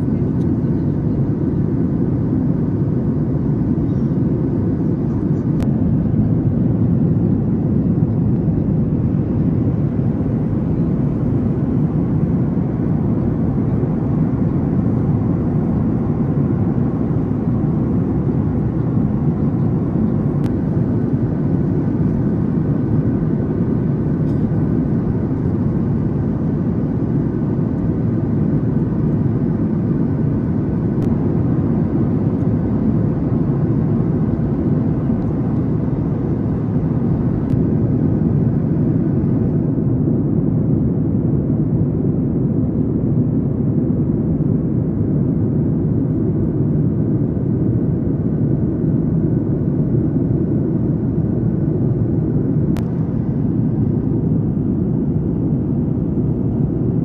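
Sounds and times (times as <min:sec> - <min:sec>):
airplane cabin engine rush: 0:00.0 - 0:57.0.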